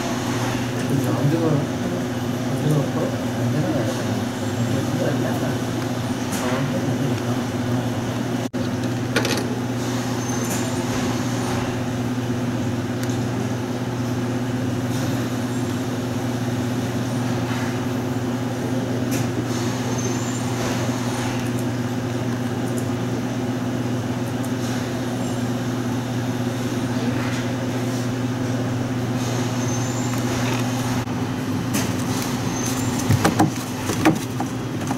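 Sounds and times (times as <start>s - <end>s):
washing machine humming: 0.0s - 34.9s.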